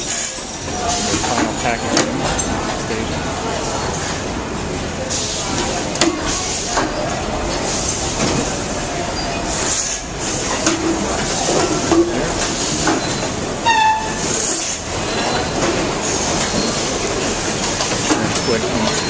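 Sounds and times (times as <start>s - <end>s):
production line machinery din: 0.0s - 19.0s.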